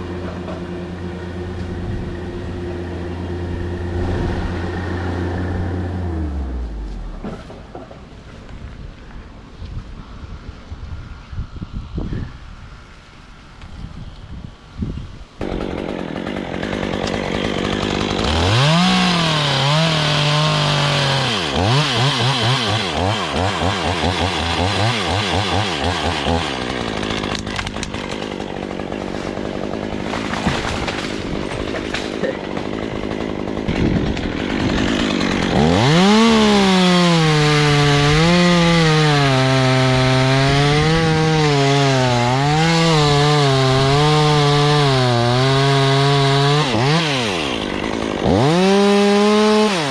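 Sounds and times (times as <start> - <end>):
chainsaw cutting wood: 0.0 - 8.5, 15.4 - 49.9.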